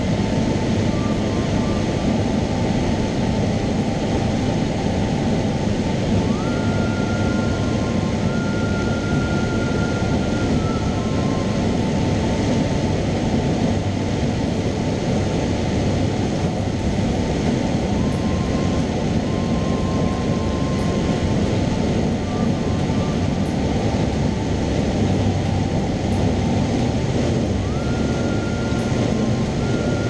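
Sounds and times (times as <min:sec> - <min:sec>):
plane engine droning: 0:00.0 - 0:30.0
rushing air: 0:00.0 - 0:30.0.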